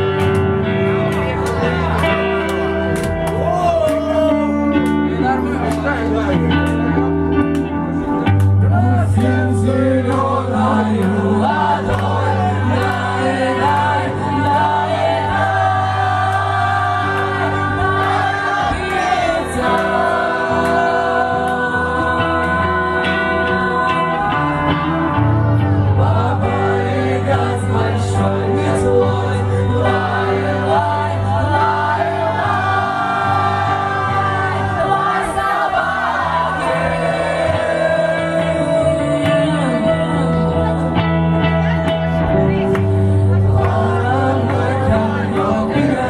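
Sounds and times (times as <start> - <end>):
live band playing amplified music: 0.0 - 46.0
sustained bass notes: 0.0 - 46.0
person singing: 8.6 - 46.0.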